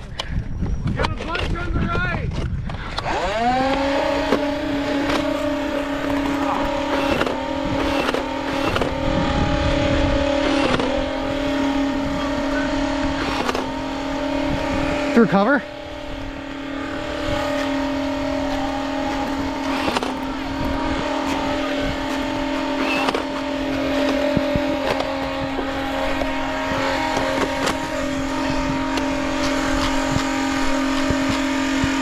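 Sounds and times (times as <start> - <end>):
flywheel motors whining: 2.6 - 32.0.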